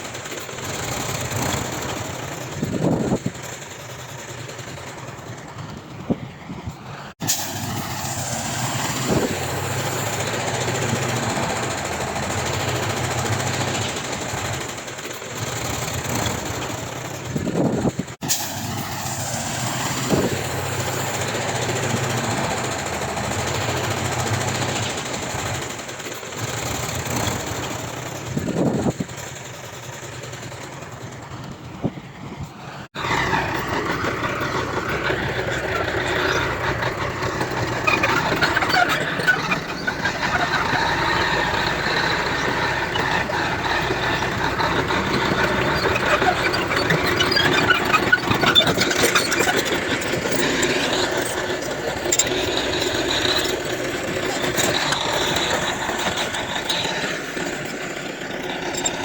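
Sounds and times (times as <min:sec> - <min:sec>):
diesel engine with mechanical clatter: 0:00.0 - 0:59.0.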